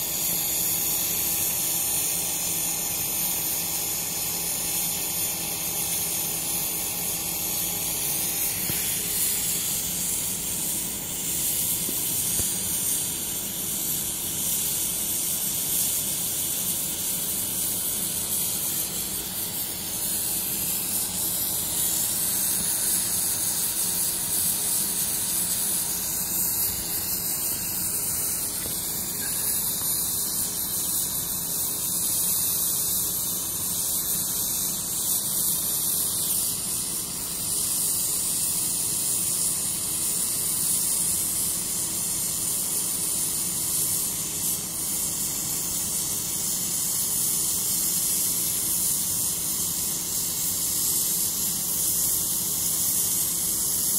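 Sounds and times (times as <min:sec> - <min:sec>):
cutting torch gas hissing: 0:00.0 - 0:53.9.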